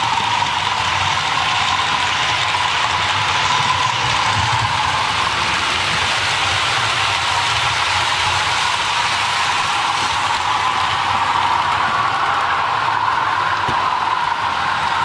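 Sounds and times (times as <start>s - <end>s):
model trains mechanical drone: 0.0s - 15.0s.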